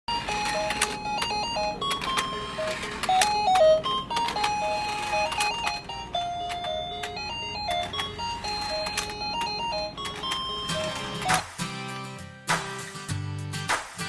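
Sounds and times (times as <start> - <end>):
toy beeping melody: 0.1 - 11.5.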